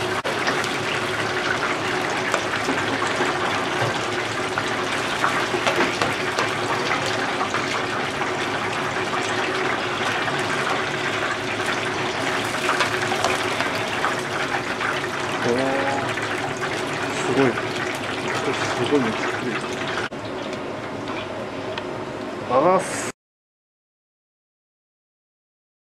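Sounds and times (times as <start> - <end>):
food sizzling in hot oil: 0.0 - 21.2.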